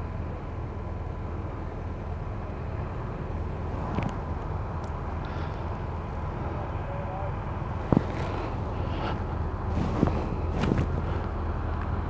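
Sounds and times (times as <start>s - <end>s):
excavator diesel engines droning: 0.0s - 12.0s.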